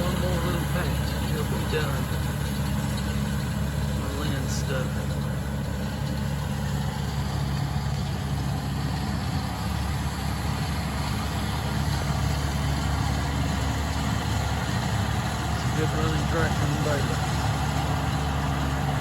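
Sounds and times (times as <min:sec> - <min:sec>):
engine humming steadily: 0:00.0 - 0:19.0.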